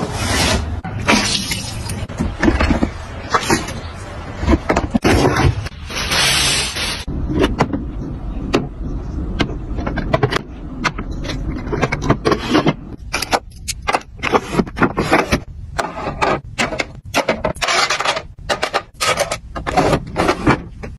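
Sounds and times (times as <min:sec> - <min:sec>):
plastic drawers clicking and scraping: 0:02.0 - 0:20.9.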